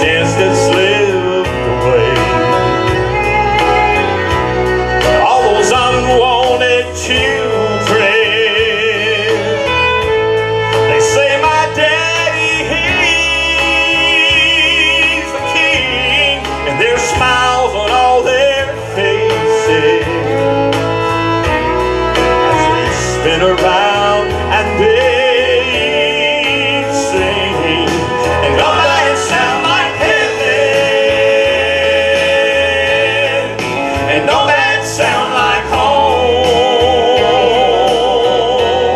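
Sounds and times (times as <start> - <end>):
male vocal group singing: 0.0 - 10.1, 10.7 - 38.9
instrumental accompaniment: 0.0 - 38.9
lead voice singing with vibrato: 0.0 - 38.9.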